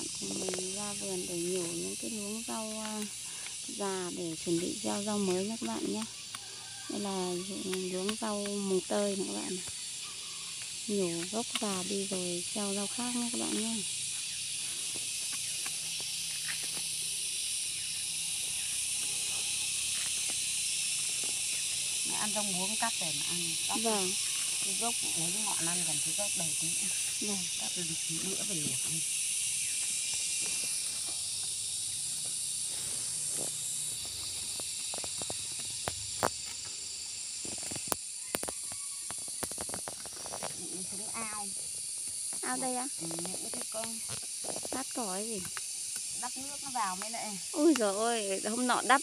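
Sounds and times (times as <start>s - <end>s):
steady high hiss: 7.8s - 49.0s.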